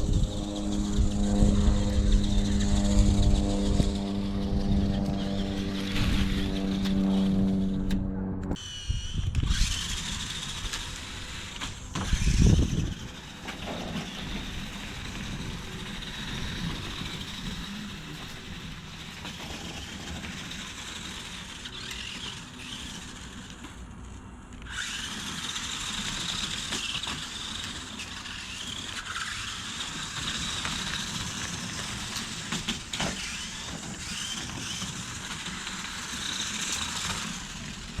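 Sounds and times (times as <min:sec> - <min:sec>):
tyre and chassis noise: 0:00.0 - 0:08.6, 0:09.2 - 0:38.0
toy truck motor whirring: 0:00.0 - 0:38.0.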